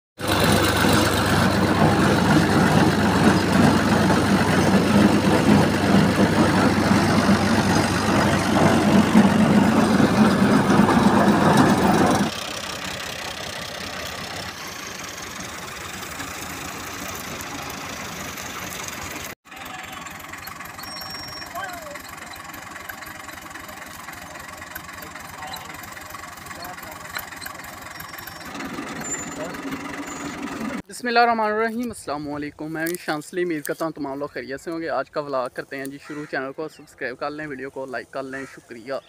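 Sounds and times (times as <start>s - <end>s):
tractor diesel engine running: 0.2s - 35.8s.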